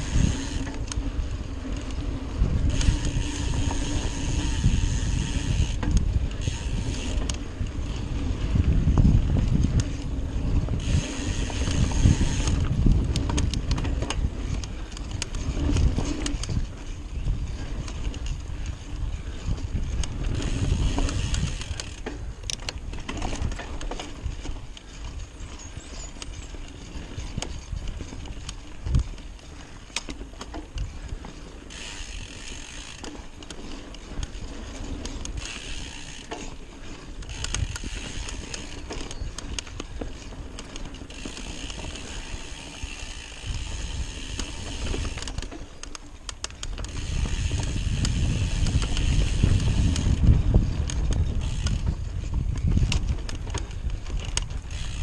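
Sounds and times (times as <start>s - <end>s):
bike freewheel ratchet buzzing: 0.0s - 55.0s
bike rattling: 0.0s - 55.0s
rumble of tyres and wind: 0.0s - 55.0s.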